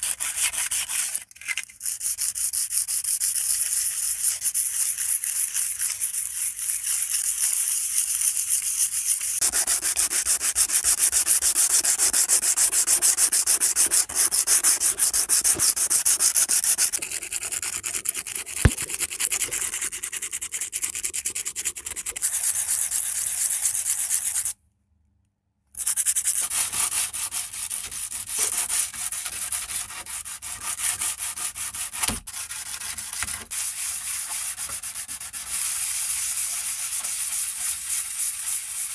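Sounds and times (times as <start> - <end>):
sandpaper rubbing on metal: 0.0 - 21.8, 25.8 - 38.9.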